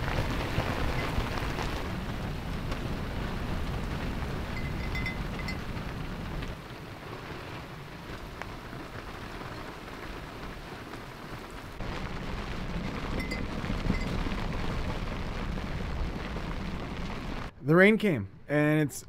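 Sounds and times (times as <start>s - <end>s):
gusty wind rumbling: 0.0s - 17.6s
heavy rain on water and boat: 0.0s - 17.6s.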